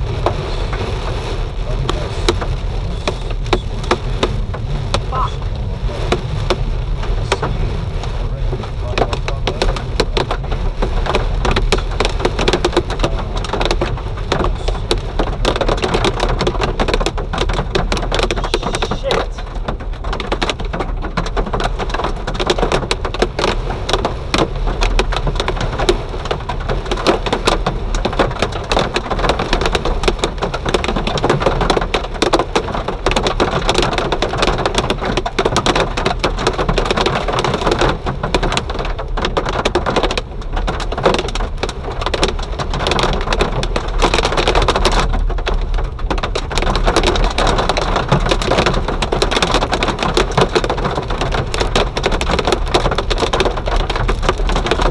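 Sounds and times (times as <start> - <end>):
hail clattering on hard surfaces: 0.0 - 54.9.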